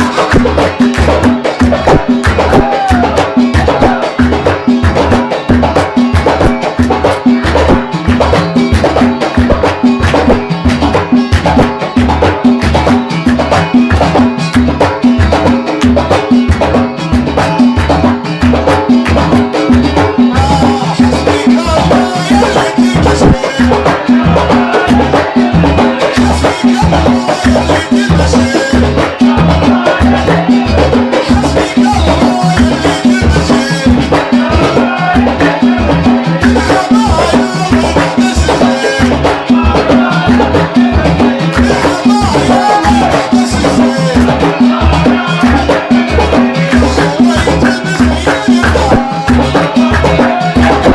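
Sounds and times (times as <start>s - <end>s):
voices singing: 0.0s - 15.6s, 16.2s - 50.9s
hand drums beating: 0.0s - 50.9s.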